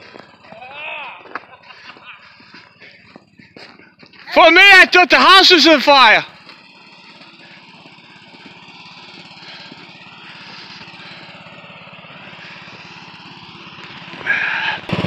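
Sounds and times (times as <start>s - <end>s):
lawn mower engine idling: 0.0s - 15.0s.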